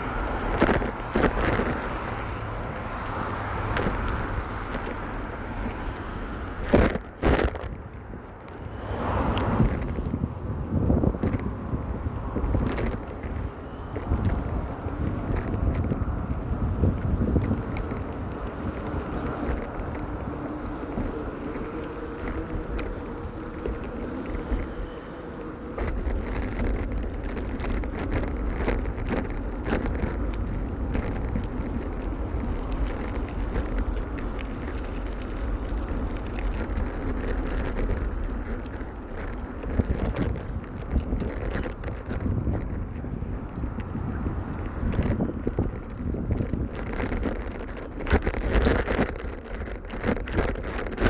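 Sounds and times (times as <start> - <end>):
road traffic passing: 0.0 - 51.0
wind rushing over microphone: 0.0 - 51.0.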